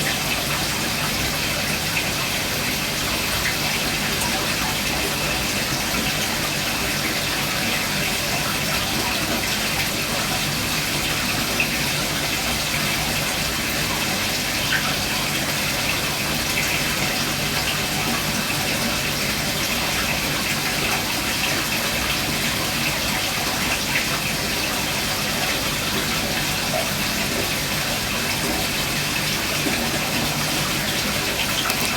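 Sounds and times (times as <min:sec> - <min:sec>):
aquarium water splashing: 0:00.0 - 0:31.9.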